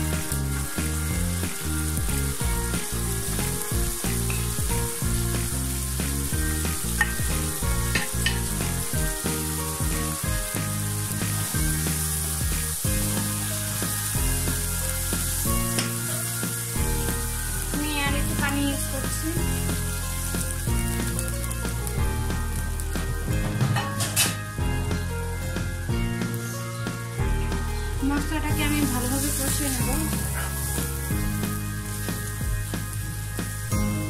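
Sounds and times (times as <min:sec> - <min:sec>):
oil sizzling in a wok: 0:00.0 - 0:34.0
soft background music: 0:00.0 - 0:34.0.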